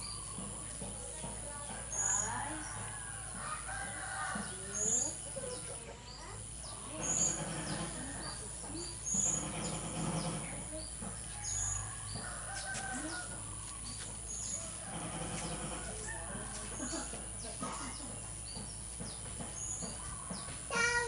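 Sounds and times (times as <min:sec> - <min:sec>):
softer lower bird sounds: 0:00.0 - 0:21.0.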